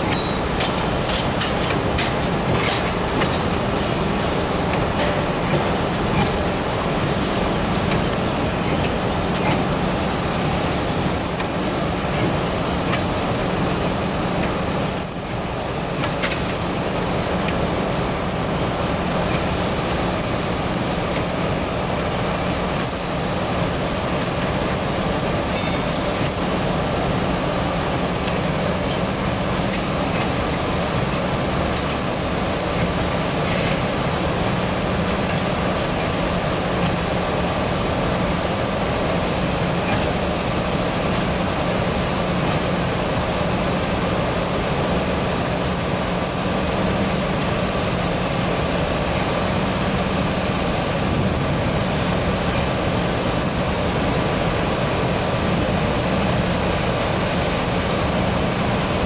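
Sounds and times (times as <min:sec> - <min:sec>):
steam escaping roar: 0:00.0 - 0:59.0.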